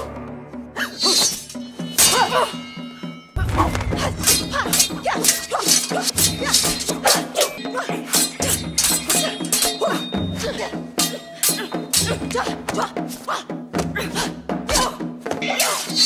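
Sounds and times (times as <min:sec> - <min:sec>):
film soundtrack music: 0:00.0 - 0:16.0.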